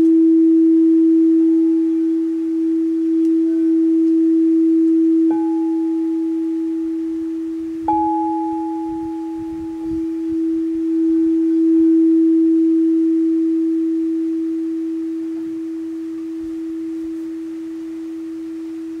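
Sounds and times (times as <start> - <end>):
singing bowl ringing: 0.0 - 19.0.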